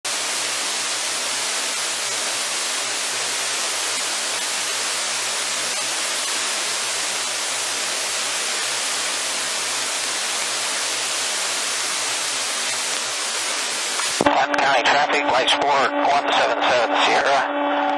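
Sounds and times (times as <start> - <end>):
steady hiss: 0.1 - 17.4.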